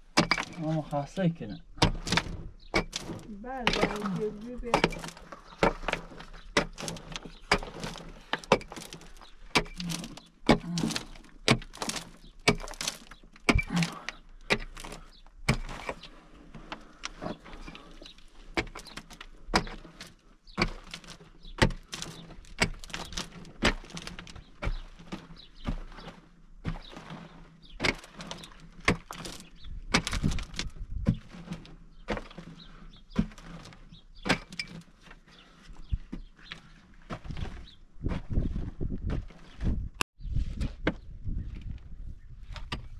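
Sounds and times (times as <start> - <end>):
hand tool striking earth: 0.0 - 1.0, 1.7 - 35.5
scraping: 0.0 - 39.8
falling grit: 1.8 - 37.6.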